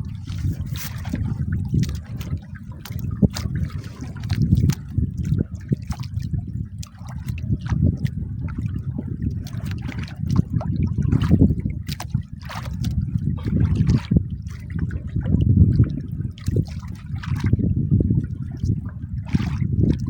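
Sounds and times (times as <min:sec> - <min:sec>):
small splashes: 0:00.0 - 0:15.3, 0:16.3 - 0:17.6
low rumble: 0:00.0 - 0:16.4
water lapping against boat hull: 0:00.0 - 0:20.0.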